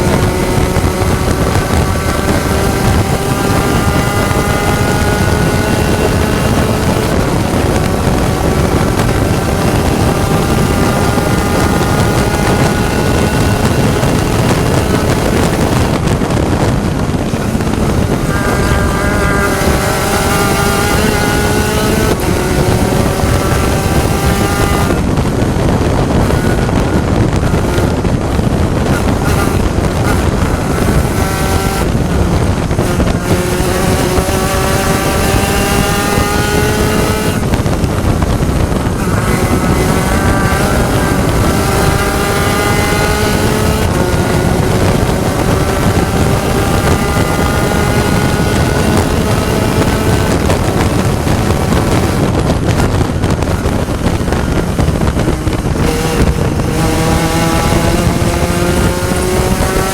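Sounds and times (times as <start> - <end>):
race car engine at full throttle: 0.0 - 59.9
wind and road noise: 0.0 - 59.9.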